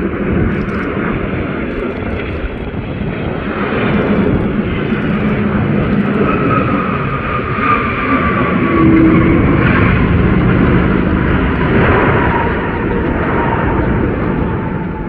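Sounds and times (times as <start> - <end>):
jet engine whine: 0.0 - 15.0
jet engines rushing: 0.0 - 15.0.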